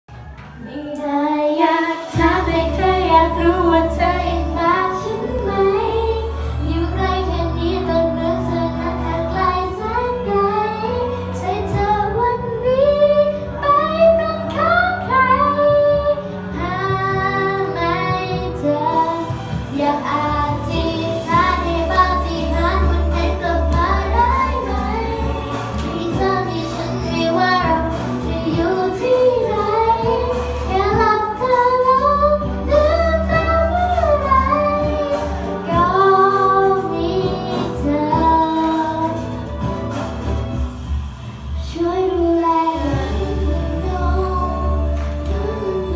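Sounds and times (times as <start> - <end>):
girl singing pop song: 0.2 - 45.9
backing track with bass line: 2.1 - 45.9.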